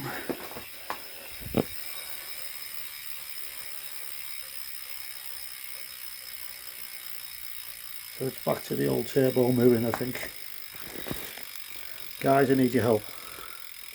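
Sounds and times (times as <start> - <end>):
freehub pawls ticking: 0.0 - 13.9.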